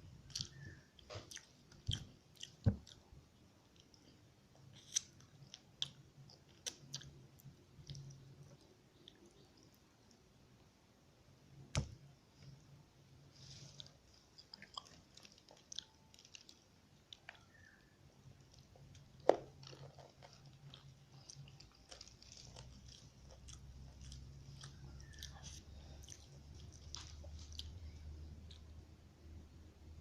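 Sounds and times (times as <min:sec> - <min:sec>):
faint low hum: 0:00.0 - 0:30.0
close-miked chewing: 0:00.2 - 0:10.2, 0:13.4 - 0:28.9.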